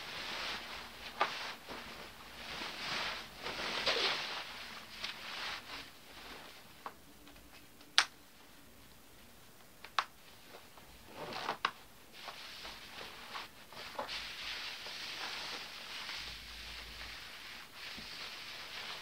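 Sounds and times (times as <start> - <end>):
nylon fabric rustling: 0.0 - 6.8, 10.3 - 19.0.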